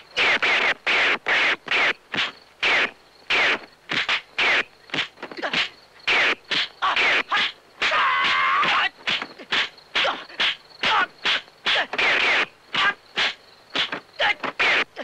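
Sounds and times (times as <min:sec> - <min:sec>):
fists whooshing through air: 0:00.2 - 0:07.5, 0:08.7 - 0:14.0.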